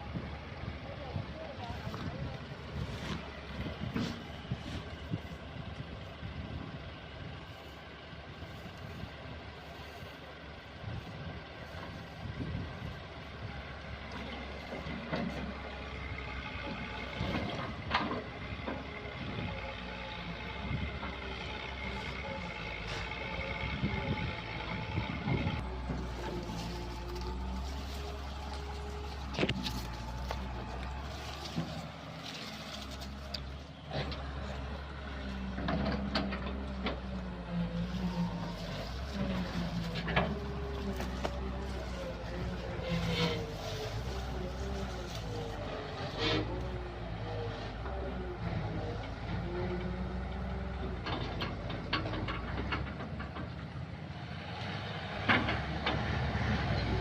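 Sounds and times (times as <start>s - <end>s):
excavator diesel engine running: 0.0s - 57.0s
knocks and clanks of digging equipment: 0.0s - 57.0s.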